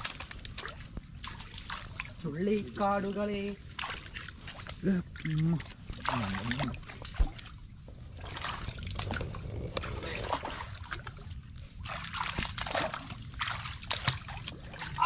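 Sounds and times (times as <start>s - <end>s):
footsteps sloshing through water: 0.0s - 15.0s.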